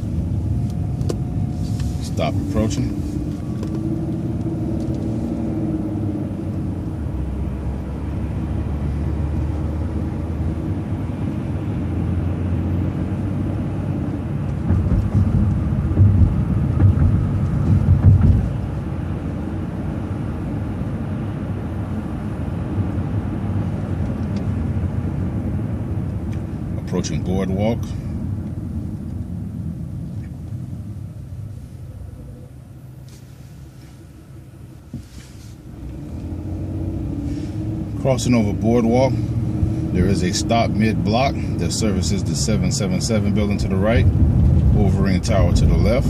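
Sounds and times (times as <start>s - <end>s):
low uneven rumble: 0.0s - 8.2s, 14.0s - 46.0s
vehicle engine and road noise: 0.0s - 46.0s.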